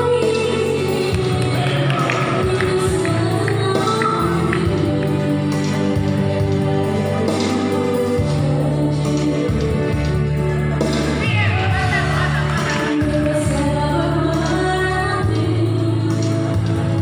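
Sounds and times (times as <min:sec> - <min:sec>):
woman singing into a microphone: 0:00.0 - 0:10.5, 0:11.9 - 0:17.0
amplified backing music: 0:00.0 - 0:17.0.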